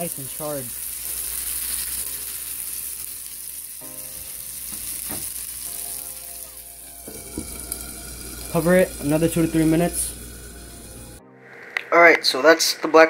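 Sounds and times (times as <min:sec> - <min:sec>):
fish sizzling in butter: 0:00.0 - 0:11.2.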